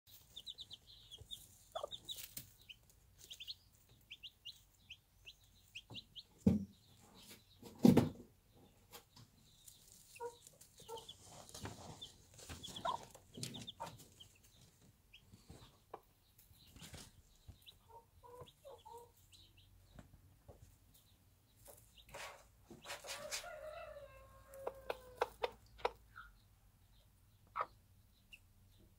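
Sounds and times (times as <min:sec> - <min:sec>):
hen clucking: 0:00.1 - 0:07.6, 0:08.7 - 0:19.8, 0:21.6 - 0:28.8
chicks peeping: 0:00.1 - 0:28.9.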